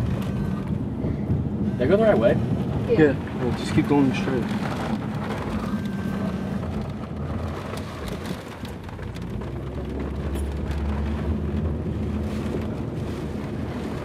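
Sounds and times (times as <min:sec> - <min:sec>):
heavy rain beating on car: 0:00.0 - 0:14.0
wind and road noise rumble: 0:00.0 - 0:14.0.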